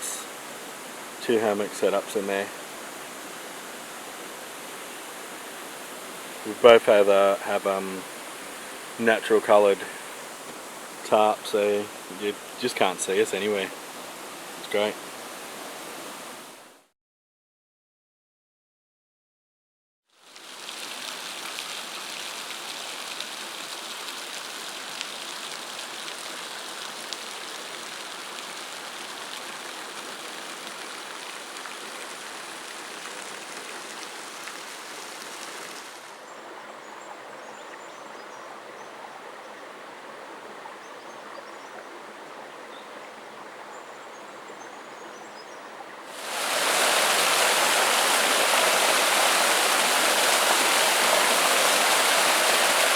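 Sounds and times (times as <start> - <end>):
waterfall and stream rushing: 0.0 - 16.8, 20.4 - 44.7, 45.6 - 52.9.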